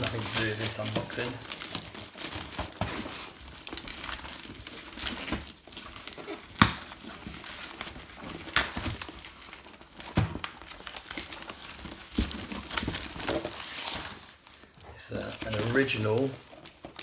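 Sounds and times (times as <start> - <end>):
plastic bag crinkling and tearing: 0.0 - 17.0.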